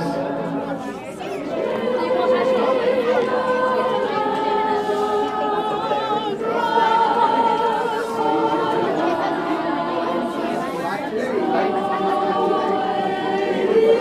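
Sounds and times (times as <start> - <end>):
group of people singing: 0.0 - 14.0.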